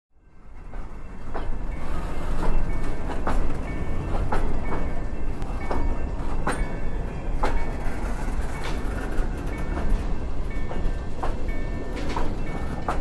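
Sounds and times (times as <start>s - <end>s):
train wheels rumbling on rails: 0.2s - 13.0s
wheels clicking over rail joints: 0.6s - 13.0s.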